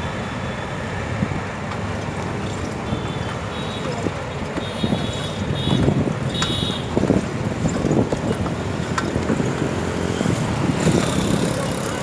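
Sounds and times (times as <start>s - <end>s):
road traffic noise: 0.0s - 12.0s
wind buffeting microphone: 1.1s - 12.0s.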